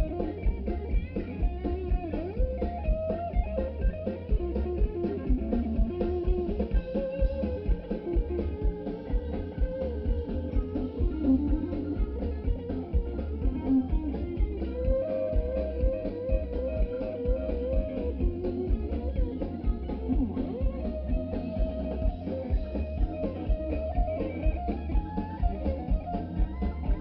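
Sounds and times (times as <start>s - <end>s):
blues band playing: 0.0s - 27.0s
lead guitar bent notes: 0.0s - 27.0s.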